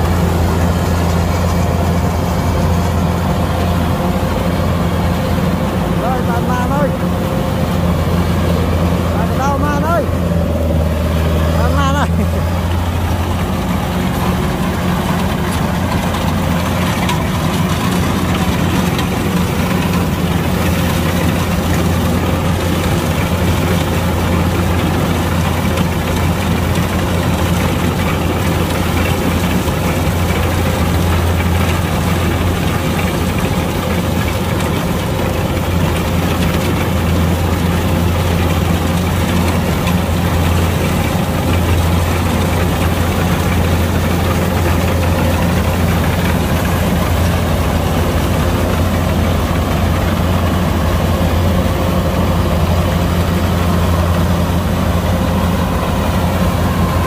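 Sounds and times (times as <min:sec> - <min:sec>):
combine harvester diesel engine running: 0:00.0 - 0:57.0.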